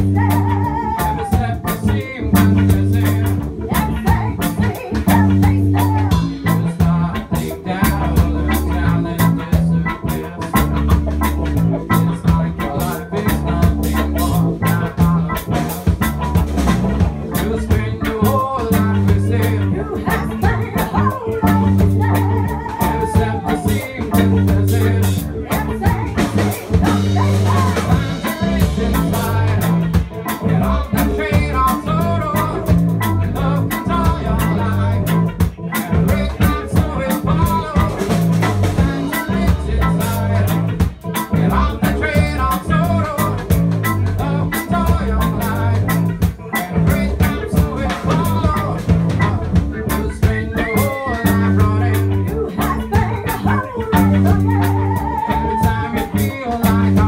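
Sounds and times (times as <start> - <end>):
drum kit: 0.0 - 57.0
electric guitars: 0.0 - 57.0
heavy repeating bass line: 0.0 - 57.0
person singing: 0.0 - 57.0.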